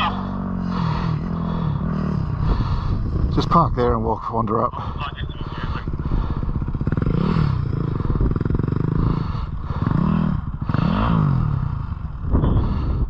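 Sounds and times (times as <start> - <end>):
dirt bike engine revving: 0.0 - 3.4, 5.7 - 13.0.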